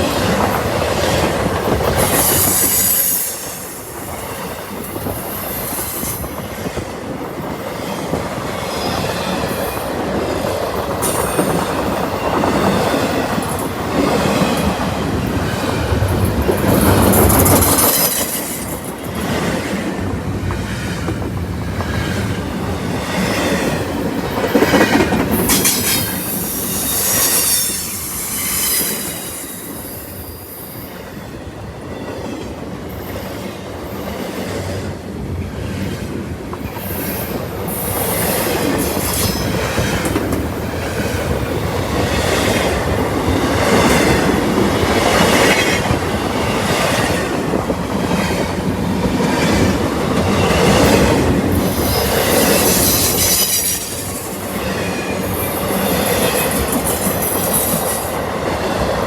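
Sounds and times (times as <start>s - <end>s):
wheels squealing on rails: 0.0s - 6.9s, 7.5s - 19.8s, 23.0s - 34.5s, 36.6s - 47.4s, 49.2s - 58.2s
clickety-clack over rail joints: 0.0s - 59.0s
freight train cars rolling: 0.0s - 59.0s.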